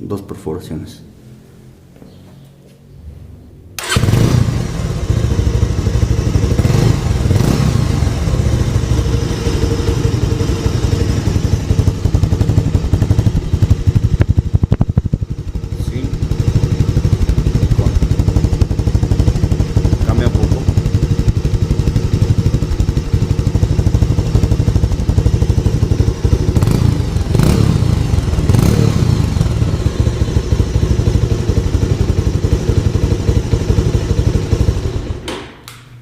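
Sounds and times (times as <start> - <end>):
motorcycle engine starting and running: 1.9 - 36.0.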